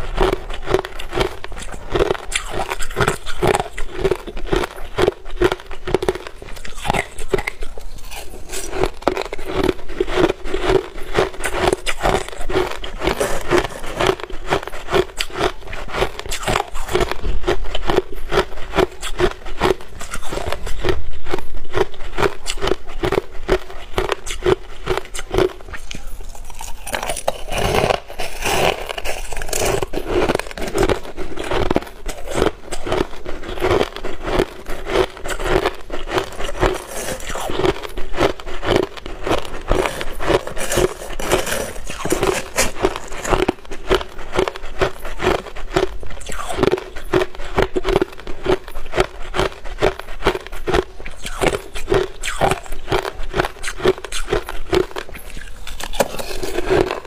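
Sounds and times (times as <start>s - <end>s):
ice crunching between teeth: 0.0s - 57.0s.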